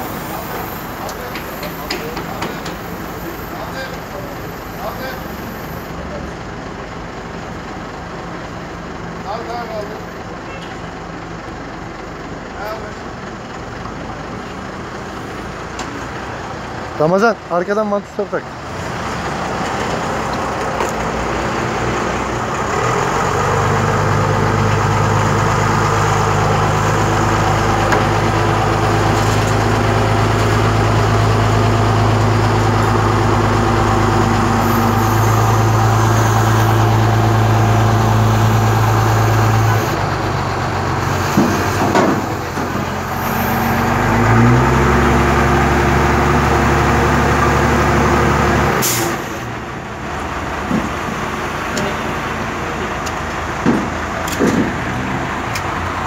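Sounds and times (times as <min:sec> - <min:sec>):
crane engine running at high revs: 0:00.0 - 0:09.2, 0:18.5 - 0:56.0.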